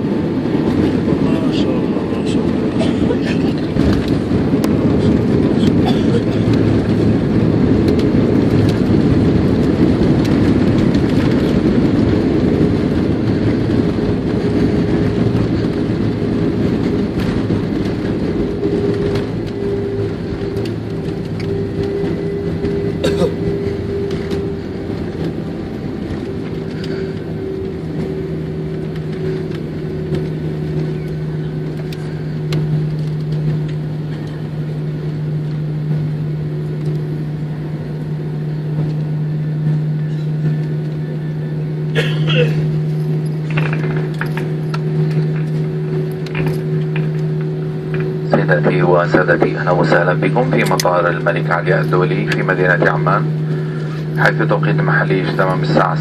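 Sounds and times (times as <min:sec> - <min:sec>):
jet engine hum: 0:00.0 - 0:56.0
loud rushing roar: 0:00.0 - 0:56.0.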